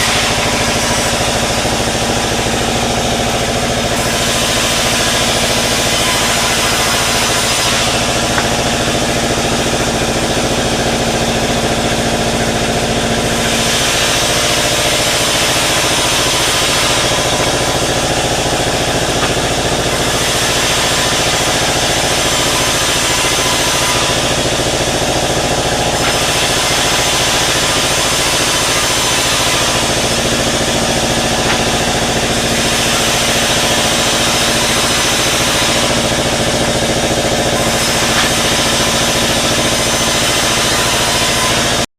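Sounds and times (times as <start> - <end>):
sawmill sawing wood: 0.0 - 41.9.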